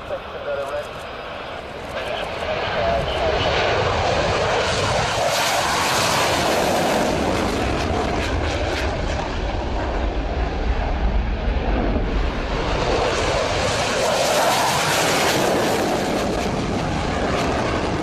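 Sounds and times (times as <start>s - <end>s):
jet engines roaring on takeoff: 0.0s - 18.0s.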